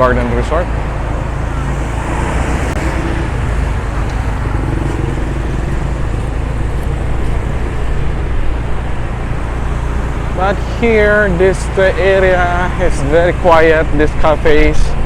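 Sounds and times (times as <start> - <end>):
car driving along street: 0.0 - 15.0.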